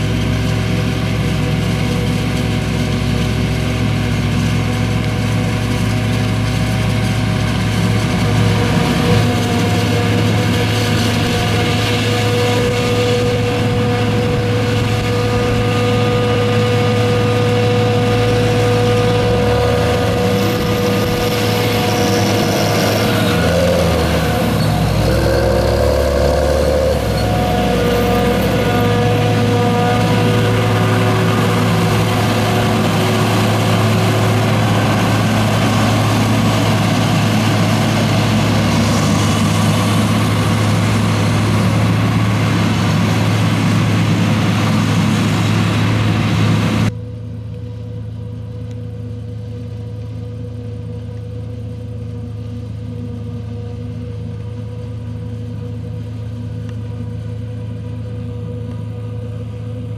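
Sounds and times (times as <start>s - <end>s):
farm machinery engines droning: 0.0s - 59.9s.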